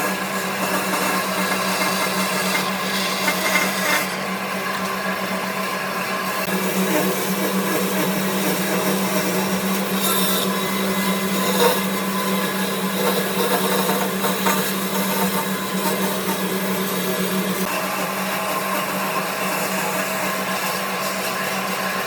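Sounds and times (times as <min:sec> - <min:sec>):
power tool motor humming: 0:00.0 - 0:04.9, 0:06.4 - 0:21.5.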